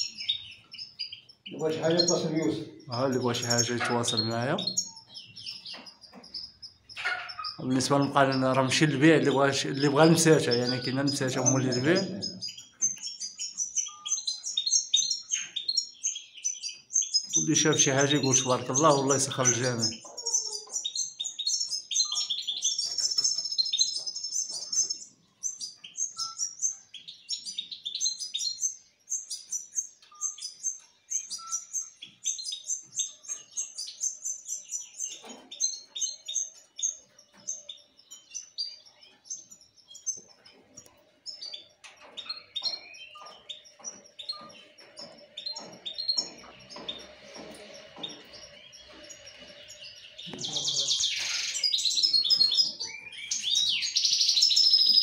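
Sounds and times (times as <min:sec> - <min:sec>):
finches chirping and twittering: 0:00.0 - 0:55.0.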